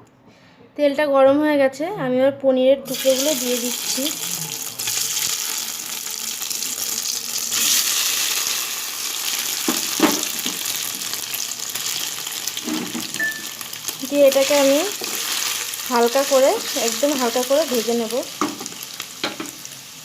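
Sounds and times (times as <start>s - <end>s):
cheese sizzling in hot oil: 2.9s - 20.0s.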